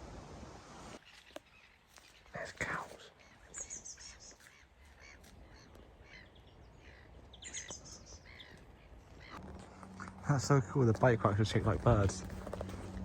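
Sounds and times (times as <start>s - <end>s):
small birds chirping: 1.0s - 13.0s.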